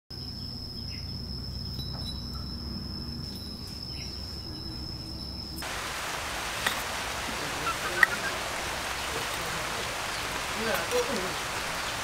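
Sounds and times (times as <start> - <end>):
insect high-pitched drone: 0.1 - 12.0.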